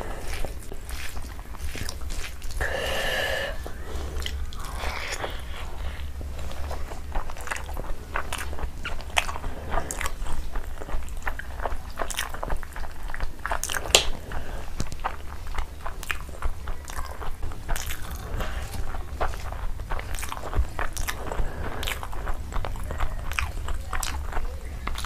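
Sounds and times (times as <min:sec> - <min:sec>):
chewing rice: 0:00.0 - 0:25.0
fingers squishing rice: 0:00.0 - 0:25.0
wet mouth clicks and smacks: 0:00.0 - 0:25.0.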